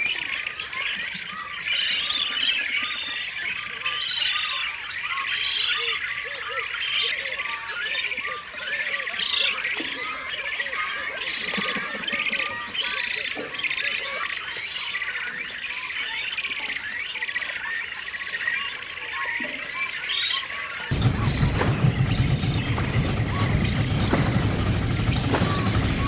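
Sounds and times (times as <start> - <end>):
bird colony squawking and chirping: 0.1 - 26.0.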